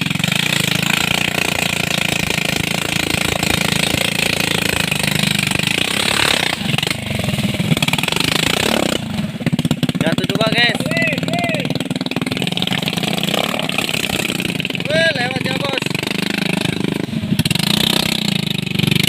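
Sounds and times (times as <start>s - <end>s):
small engine puttering: 0.0s - 19.0s.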